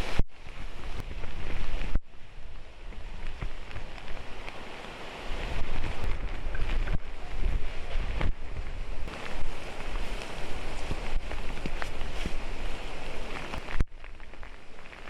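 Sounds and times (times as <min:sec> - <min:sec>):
gusts buffeting microphone: 0:00.0 - 0:15.0
heavy rain: 0:00.0 - 0:15.0
strong wind: 0:00.0 - 0:15.0.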